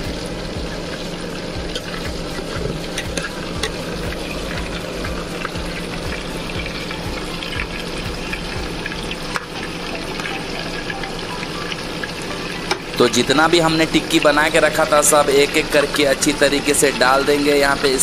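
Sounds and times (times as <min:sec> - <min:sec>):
food sizzling in oil: 0:00.0 - 0:18.0
oil popping and crackling: 0:00.0 - 0:18.0.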